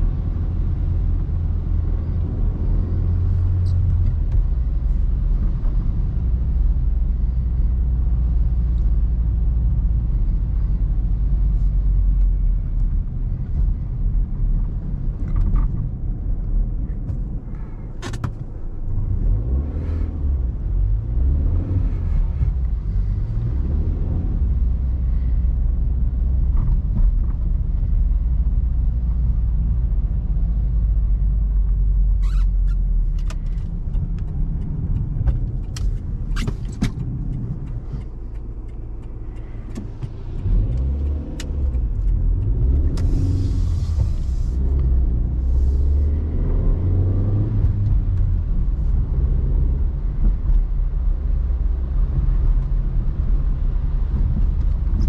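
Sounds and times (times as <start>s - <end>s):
car engine rumble while driving: 0.0s - 55.0s.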